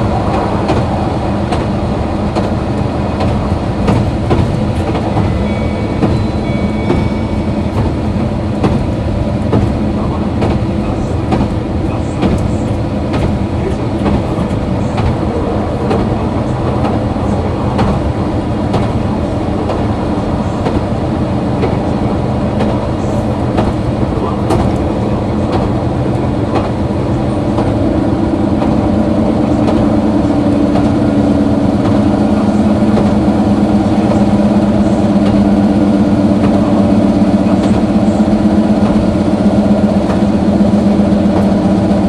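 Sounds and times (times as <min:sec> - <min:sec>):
railcar diesel engine running: 0:00.0 - 0:42.0.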